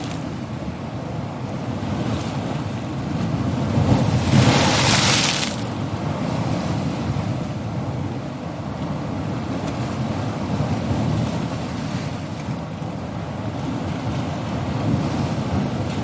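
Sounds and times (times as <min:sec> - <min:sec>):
surf rumbling: 0:00.0 - 0:16.0.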